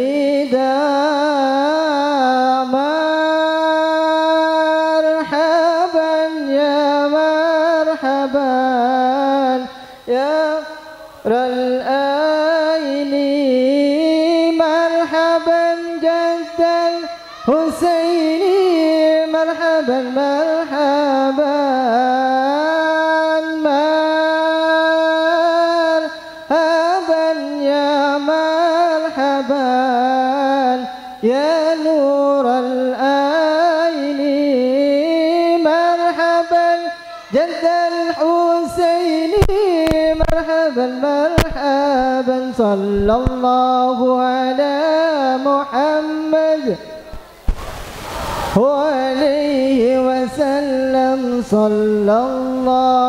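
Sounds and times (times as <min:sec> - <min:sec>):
man singing into a microphone: 0:00.0 - 0:47.4, 0:48.5 - 0:53.0.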